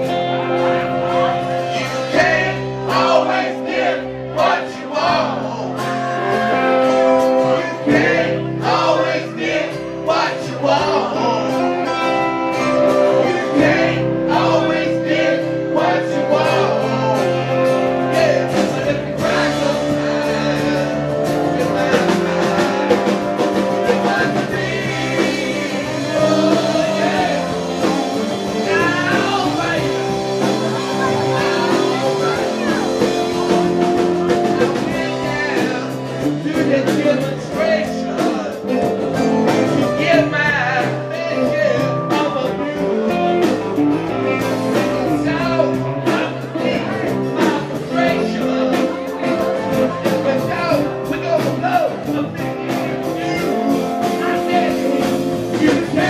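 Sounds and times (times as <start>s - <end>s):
drums: 0.0s - 56.0s
electric guitars: 0.0s - 56.0s
man singing into microphone: 7.1s - 33.5s, 34.3s - 56.0s.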